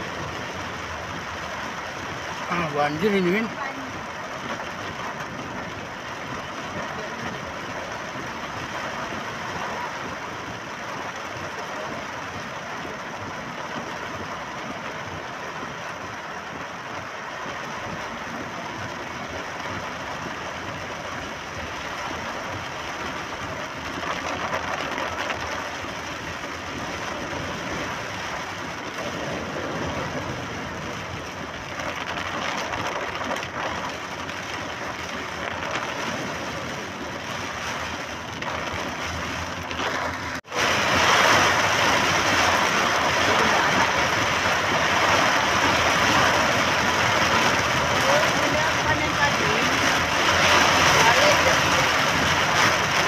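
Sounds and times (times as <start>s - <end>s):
rain on car: 0.0s - 53.0s
tyres hissing on wet road: 0.0s - 53.0s.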